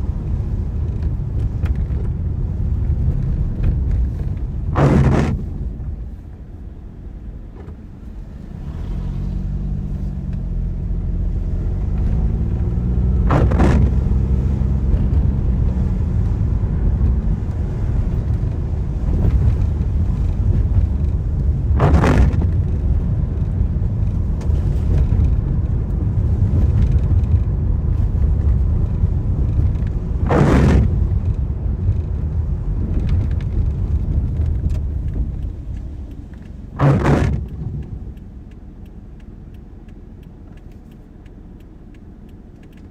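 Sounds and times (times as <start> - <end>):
car engine: 0.0 - 42.9
road and tyre rumble: 0.0 - 42.9
windscreen wiper swish: 0.0 - 42.9.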